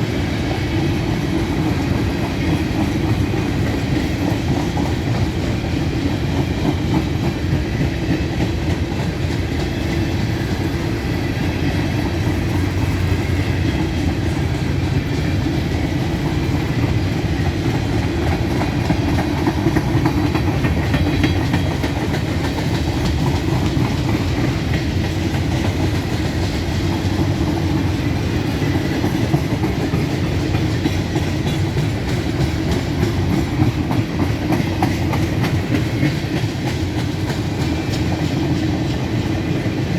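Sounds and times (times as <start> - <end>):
train cars rolling on rails: 0.0 - 39.9.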